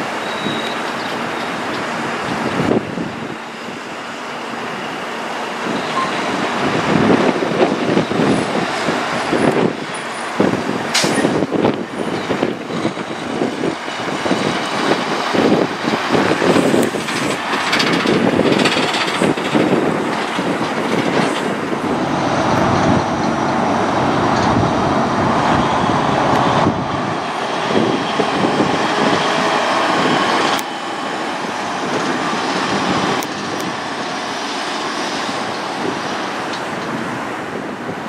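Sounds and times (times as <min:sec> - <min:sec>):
diesel truck driving past: 0:00.0 - 0:37.7
trailer knocking and rattling: 0:05.6 - 0:37.2.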